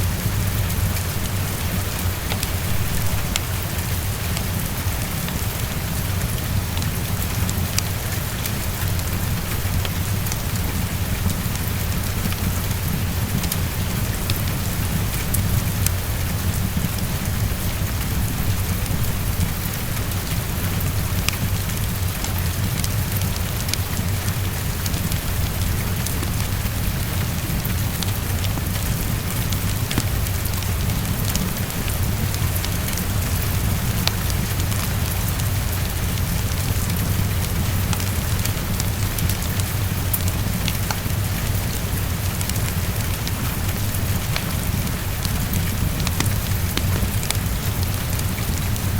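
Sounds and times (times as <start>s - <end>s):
heavy rain on a window: 0.0s - 48.9s.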